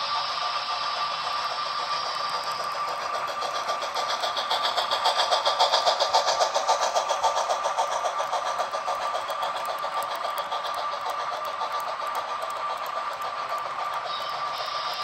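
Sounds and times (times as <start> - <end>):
model steam locomotive running: 0.0 - 15.0.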